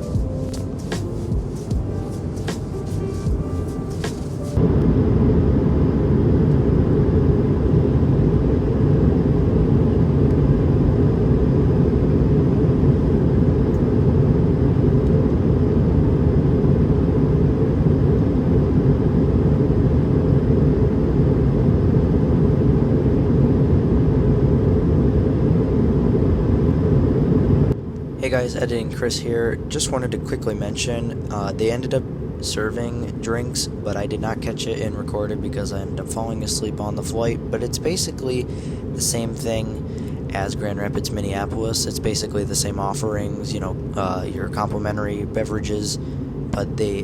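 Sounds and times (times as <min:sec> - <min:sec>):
airliner cabin engine rumble: 0:00.0 - 0:47.0.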